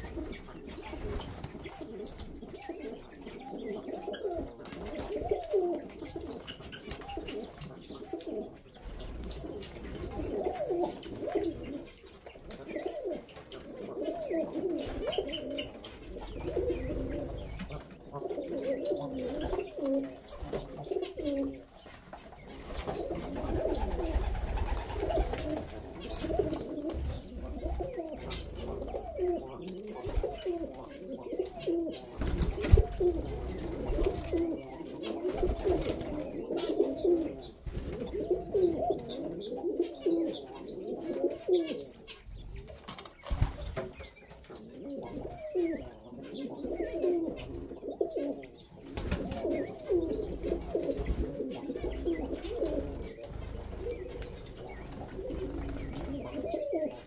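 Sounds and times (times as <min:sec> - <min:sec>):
pigeons cooing: 0:00.0 - 0:57.0
small birds chirping: 0:00.0 - 0:57.0.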